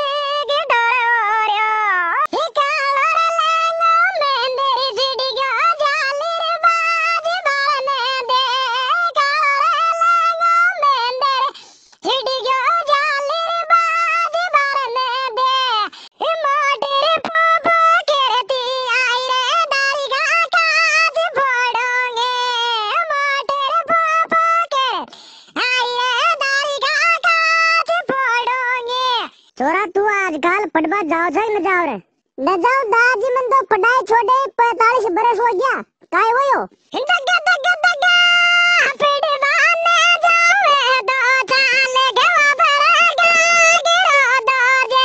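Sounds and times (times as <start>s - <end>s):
pitch-raised cartoon voice singing: 0.0s - 45.0s.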